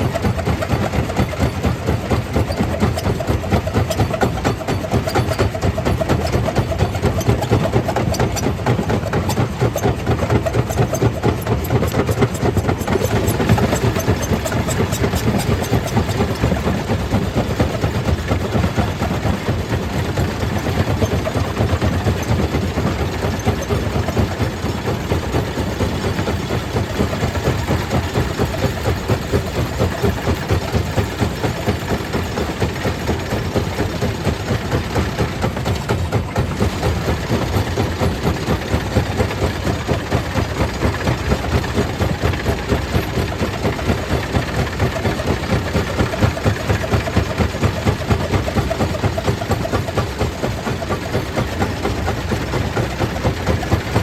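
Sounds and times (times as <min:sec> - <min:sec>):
stone crusher machinery rumbling: 0:00.0 - 0:54.0.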